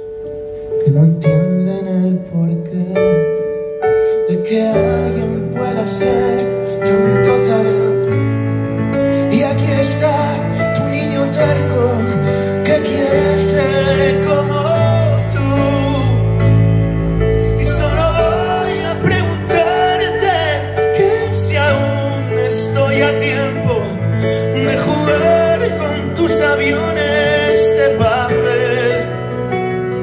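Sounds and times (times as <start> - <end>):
keyboard sustained low chords: 0.0 - 30.0
man singing into a microphone: 0.8 - 8.5, 9.1 - 16.7, 17.3 - 30.0.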